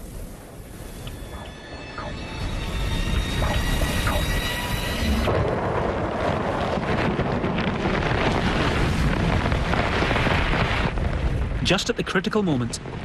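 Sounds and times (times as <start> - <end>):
sandstorm wind roaring: 0.0 - 13.0.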